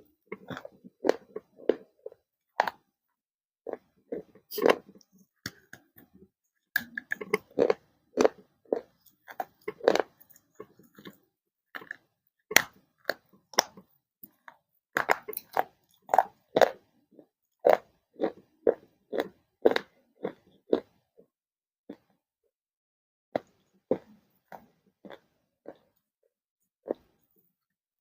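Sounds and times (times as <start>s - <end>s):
chewing dry baked clay: 0.0s - 3.0s, 3.6s - 21.3s, 21.9s - 22.2s, 23.4s - 27.7s.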